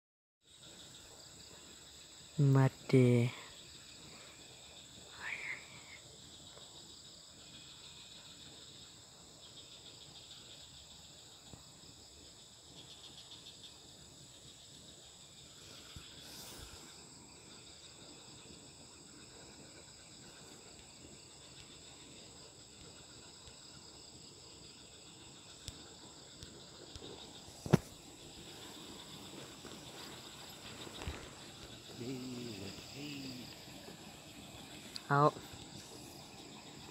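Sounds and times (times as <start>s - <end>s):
insects chirring: 0.4s - 36.9s.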